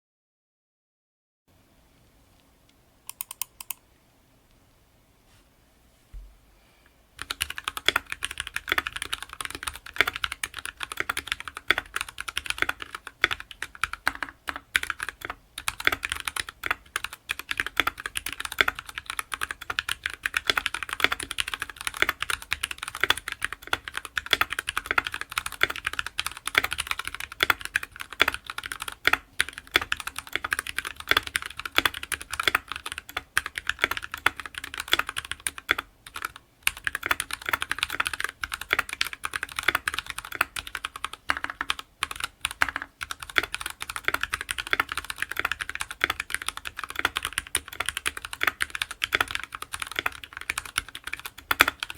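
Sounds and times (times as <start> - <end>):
mechanical keyboard typing: 3.1 - 3.8, 7.2 - 51.9.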